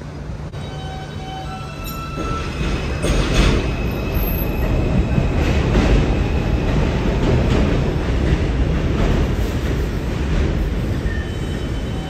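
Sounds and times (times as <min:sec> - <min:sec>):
train wheels on rails: 0:01.7 - 0:12.0
clickety-clack over rail joints: 0:02.1 - 0:12.0.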